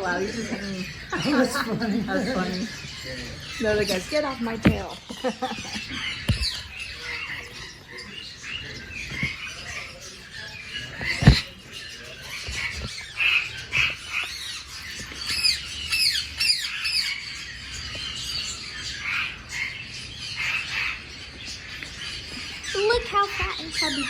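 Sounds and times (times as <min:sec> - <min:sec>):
birds squawking and chirping: 0:00.0 - 0:24.0.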